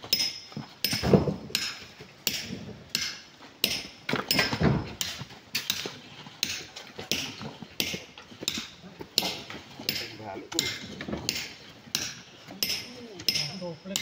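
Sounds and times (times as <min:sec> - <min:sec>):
metal tool striking rock: 0:00.0 - 0:14.0.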